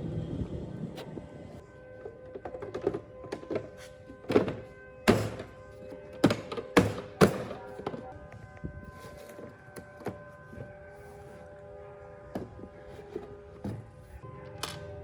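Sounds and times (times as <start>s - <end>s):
background music with held notes: 0.1s - 15.0s.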